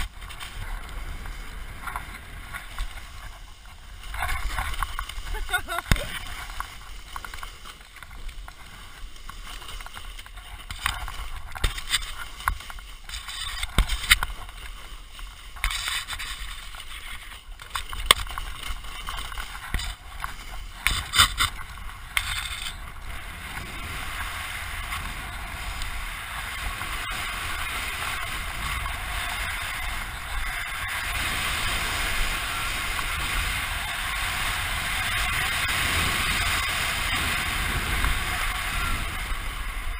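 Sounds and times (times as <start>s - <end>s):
snowboard sliding through snow: 0.0s - 39.9s.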